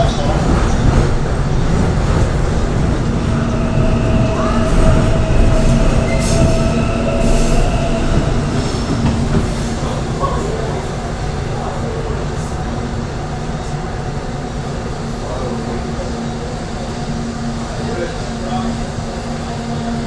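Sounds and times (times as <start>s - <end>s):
subway train rumble and hum: 0.0s - 20.0s.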